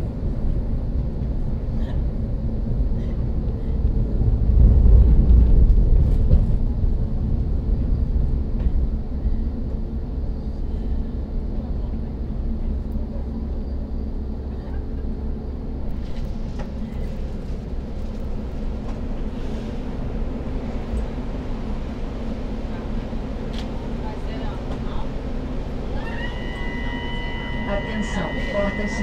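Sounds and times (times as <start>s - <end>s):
metro train rumbling: 0.0s - 29.0s.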